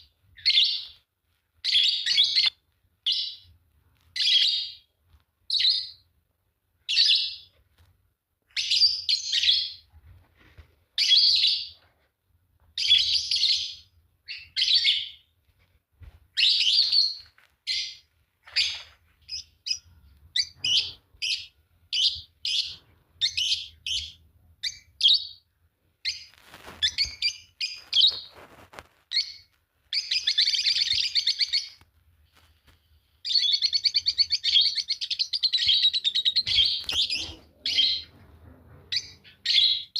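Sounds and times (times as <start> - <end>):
lovebirds chirping: 0.0 - 6.1, 6.8 - 7.7, 8.5 - 9.9, 11.0 - 11.8, 12.6 - 15.5, 16.3 - 39.9.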